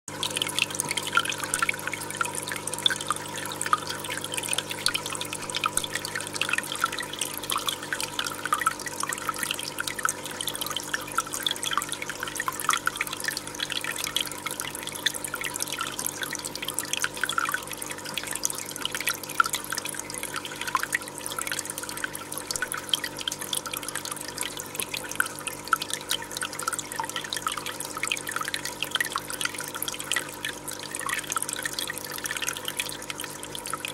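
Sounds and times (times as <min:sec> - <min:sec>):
water trickling and bubbling: 0:00.1 - 0:33.9.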